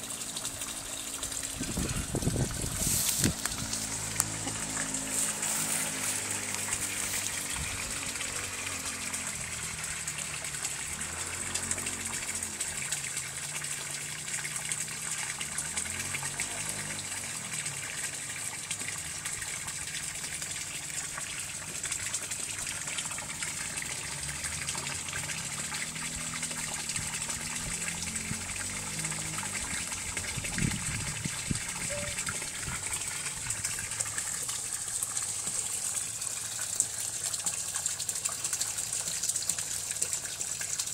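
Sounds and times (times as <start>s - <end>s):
water gushing: 0.0s - 40.9s.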